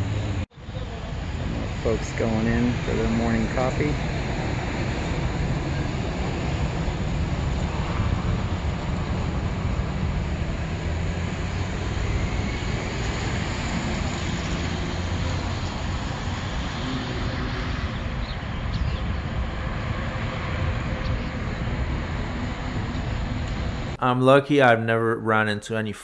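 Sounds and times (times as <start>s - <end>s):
traffic rumble and hiss: 0.0s - 25.0s.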